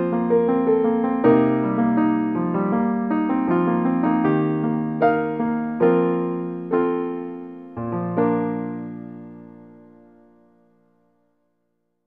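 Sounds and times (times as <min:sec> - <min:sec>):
slow piano melody: 0:00.0 - 0:11.6.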